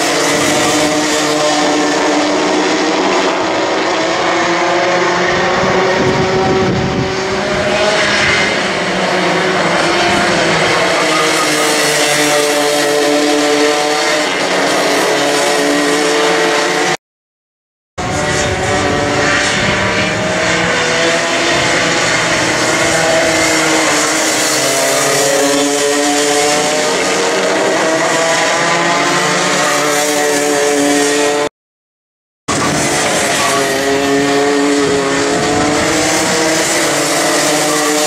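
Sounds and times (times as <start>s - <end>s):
kart engines buzzing: 0.0s - 17.0s, 18.0s - 31.5s, 32.5s - 38.0s.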